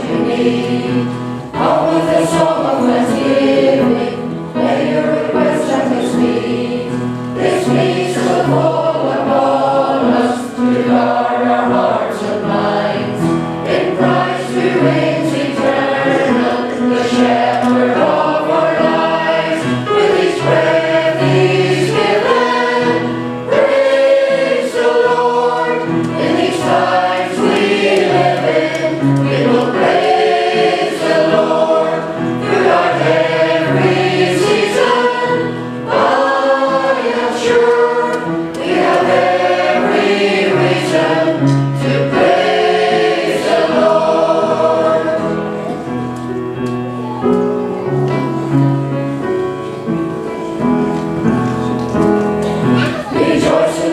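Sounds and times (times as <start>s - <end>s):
choir singing: 0.0s - 48.6s, 52.4s - 53.9s.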